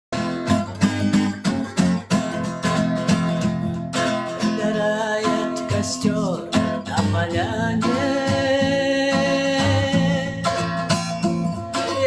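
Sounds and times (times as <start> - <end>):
acoustic guitar strumming: 0.1 - 12.0.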